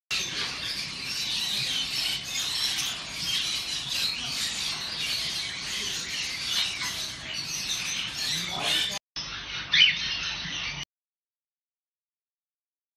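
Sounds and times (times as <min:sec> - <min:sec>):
small birds chirping: 0:00.1 - 0:10.9.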